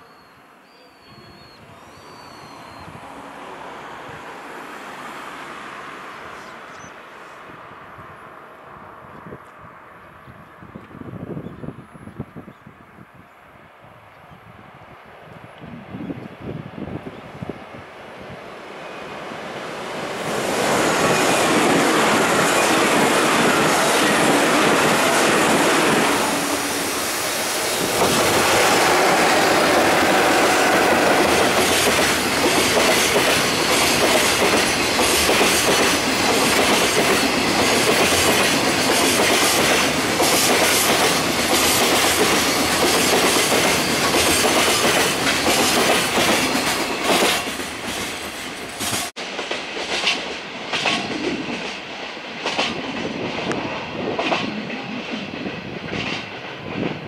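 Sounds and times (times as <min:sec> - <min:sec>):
electric locomotives passing: 0:00.0 - 0:12.2, 0:14.0 - 0:57.0.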